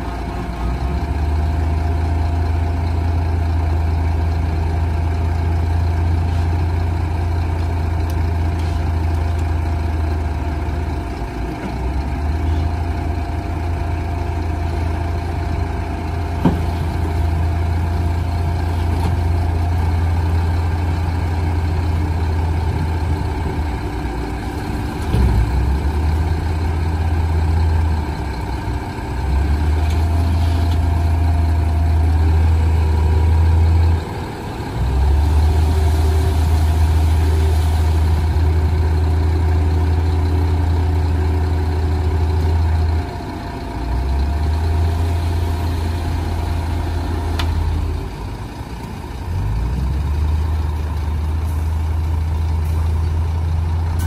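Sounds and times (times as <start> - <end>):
diesel truck engine at raised revs: 0.0 - 54.0.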